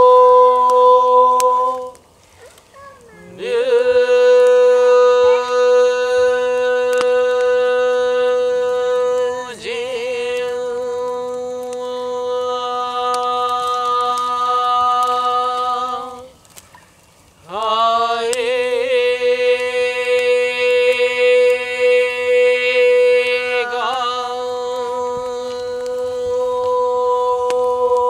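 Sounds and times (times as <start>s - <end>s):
voice chanting a long tone: 0.0s - 16.4s, 17.4s - 28.0s.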